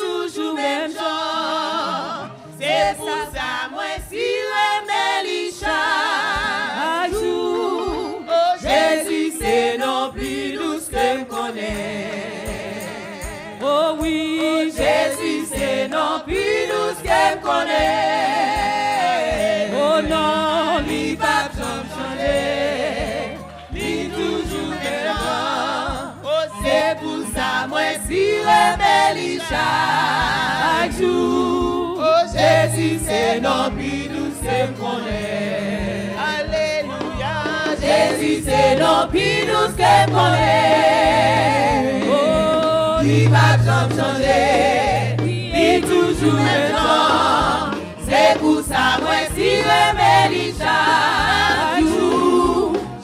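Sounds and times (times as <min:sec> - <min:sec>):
choir singing gospel: 0:00.0 - 0:53.0
steady beat: 0:02.6 - 0:53.0.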